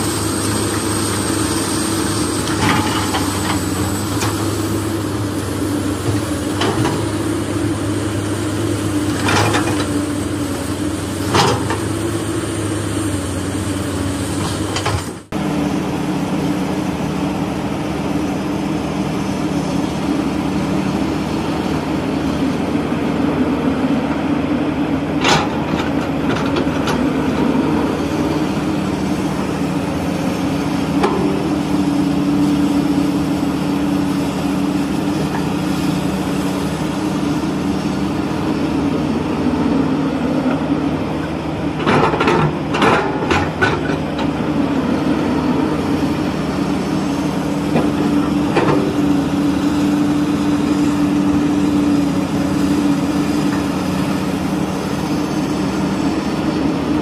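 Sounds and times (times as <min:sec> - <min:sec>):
idling engine drone: 0:00.0 - 0:57.0.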